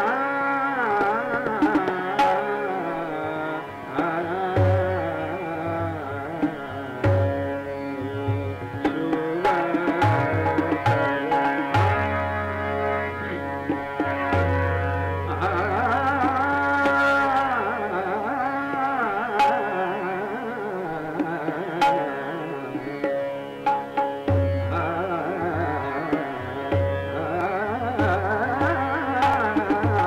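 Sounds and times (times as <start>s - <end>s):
man singing classical vocal: 0.0s - 23.3s, 24.0s - 30.0s
tabla strokes: 0.8s - 19.7s, 21.1s - 30.0s.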